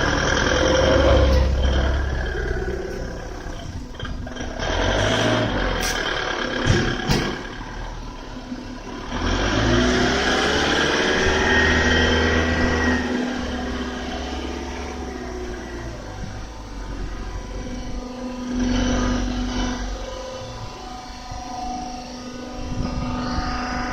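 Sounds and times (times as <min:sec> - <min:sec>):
baler machine humming: 0:00.0 - 0:23.9.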